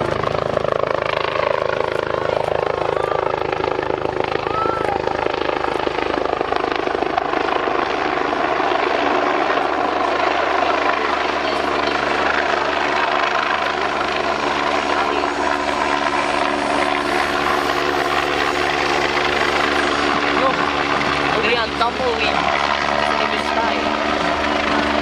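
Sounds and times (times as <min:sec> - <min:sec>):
helicopter flying overhead: 0:00.0 - 0:25.0.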